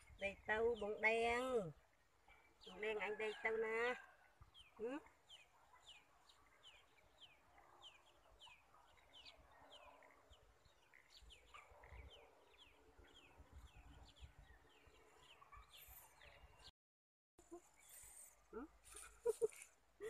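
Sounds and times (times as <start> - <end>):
small birds chirping: 0.0 - 16.7.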